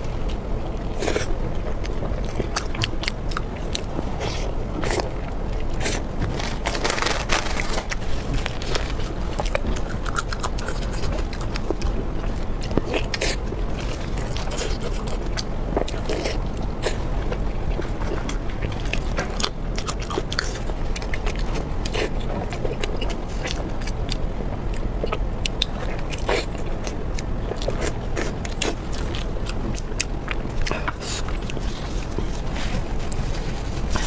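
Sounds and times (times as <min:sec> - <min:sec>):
person chewing food: 0:00.0 - 0:34.0
steady low hum: 0:00.0 - 0:34.0.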